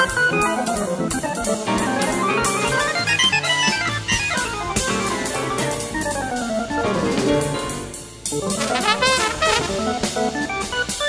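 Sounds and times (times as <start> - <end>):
jazz band playing: 0.0 - 11.0.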